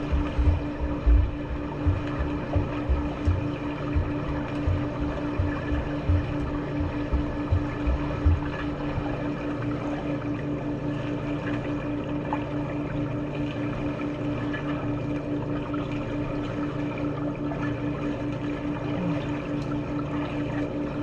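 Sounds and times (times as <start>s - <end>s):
low pulsing hum: 0.0s - 21.0s
watery swimming pool noise: 0.0s - 21.0s.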